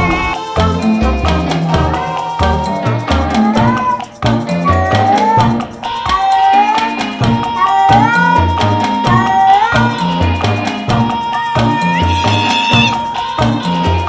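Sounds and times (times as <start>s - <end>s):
music with steady beat and bass: 0.0s - 14.0s.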